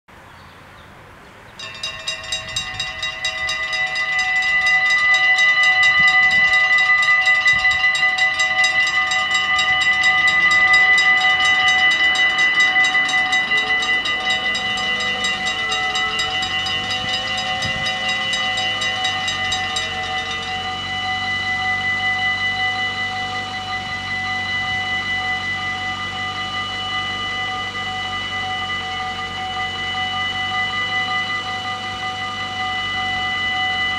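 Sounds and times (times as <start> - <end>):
level crossing warning bells: 1.6 - 33.9.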